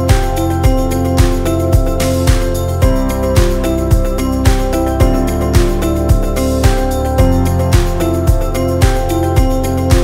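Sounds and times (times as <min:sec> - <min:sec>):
upbeat background music: 0:00.0 - 0:10.0
kick drum: 0:00.1 - 0:10.0.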